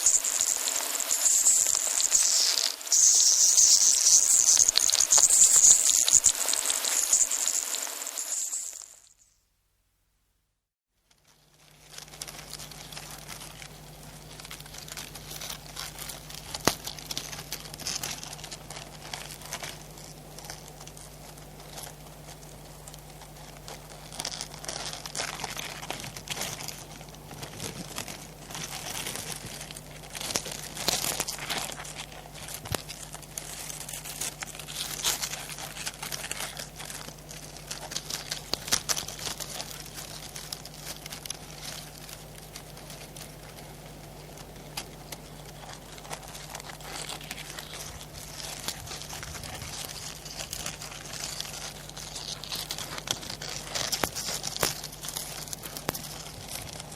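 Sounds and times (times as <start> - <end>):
crab legs scratching and rustling: 0.0 - 9.2, 11.1 - 56.9.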